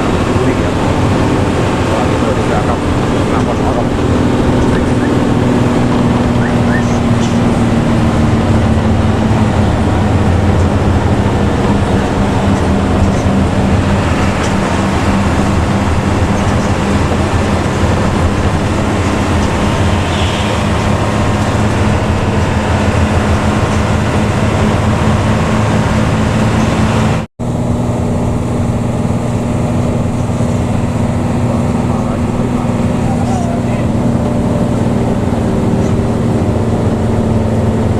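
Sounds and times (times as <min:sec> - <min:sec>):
bus engine drone: 0:00.0 - 0:37.9
road noise: 0:00.0 - 0:37.9.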